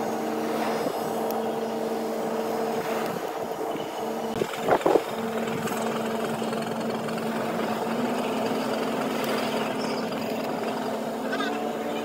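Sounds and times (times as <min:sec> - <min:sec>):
ship engine drone: 0:00.0 - 0:12.0.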